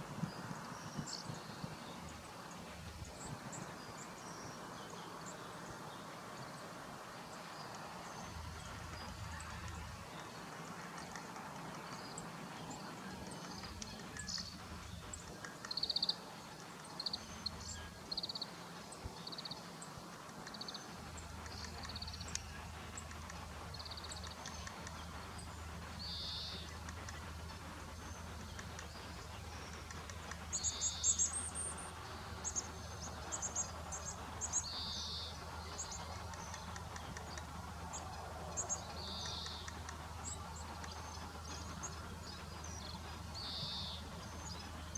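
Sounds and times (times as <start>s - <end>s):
faint steady background noise: 0.0s - 44.9s
low steady hum: 7.4s - 44.9s.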